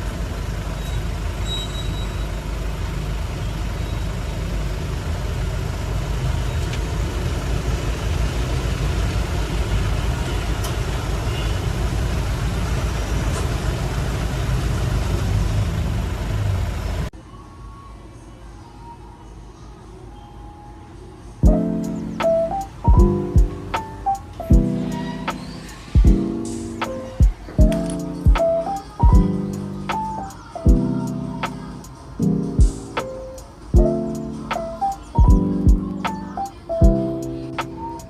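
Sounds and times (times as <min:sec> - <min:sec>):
vehicle engine and road noise: 0:00.0 - 0:17.1, 0:21.2 - 0:38.0.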